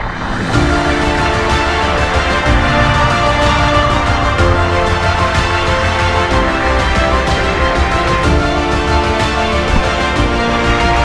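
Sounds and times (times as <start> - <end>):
background music with steady beat: 0.5 - 11.0.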